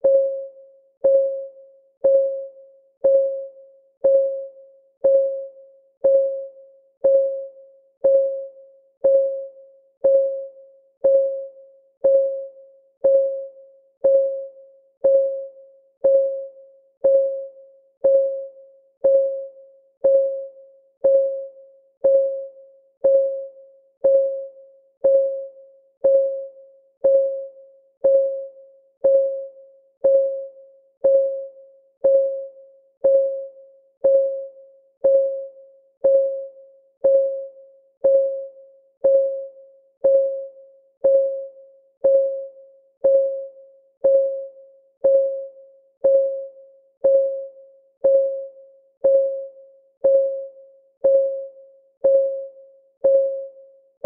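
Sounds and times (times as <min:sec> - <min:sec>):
timer clock ticking: 0:01.0 - 0:53.6.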